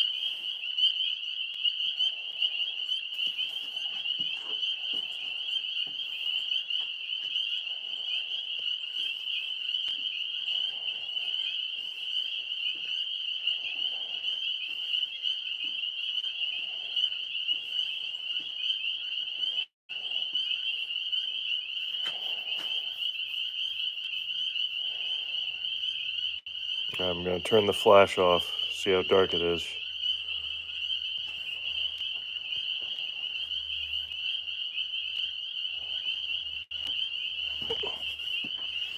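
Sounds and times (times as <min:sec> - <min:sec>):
lower frog call: 0:00.0 - 0:38.9
tree frogs trilling: 0:00.0 - 0:38.9.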